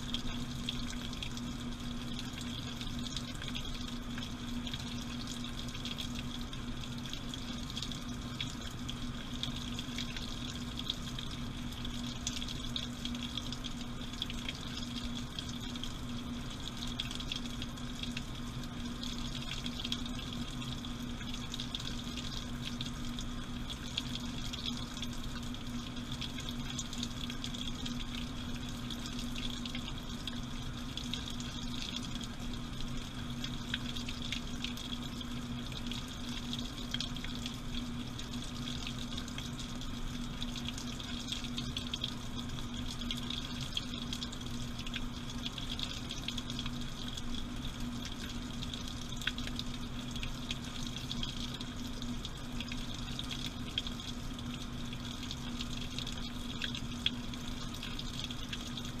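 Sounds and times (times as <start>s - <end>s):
washing machine mechanical hum: 0.0s - 59.0s.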